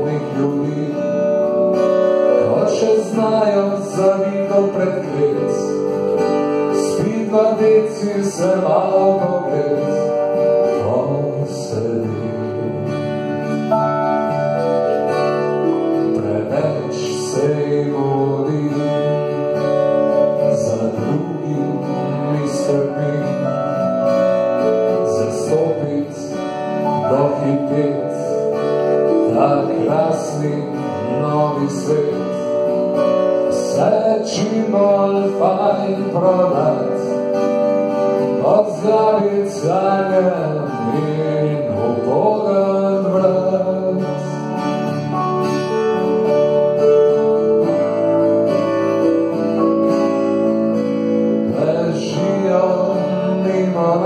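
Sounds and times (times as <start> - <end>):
man singing: 0.0 - 14.0, 15.0 - 45.2, 47.5 - 54.0
acoustic guitar strumming: 0.0 - 54.0
keyboard accompaniment: 0.0 - 54.0.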